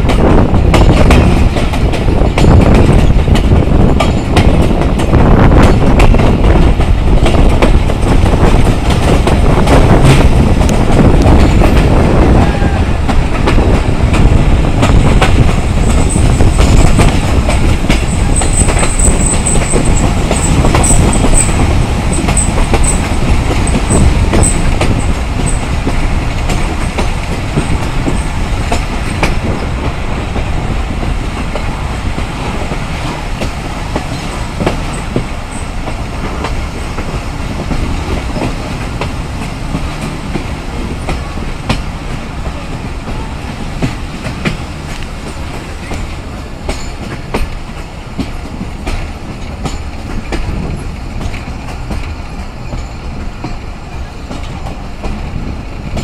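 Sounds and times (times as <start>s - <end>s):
train rumbling: 0.0s - 56.0s
wheels clacking over rail joints: 0.0s - 56.0s.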